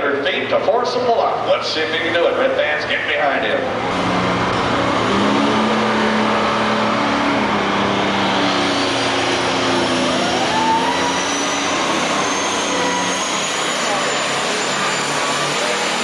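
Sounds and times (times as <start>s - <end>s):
high turbo whine: 1.3s - 16.0s.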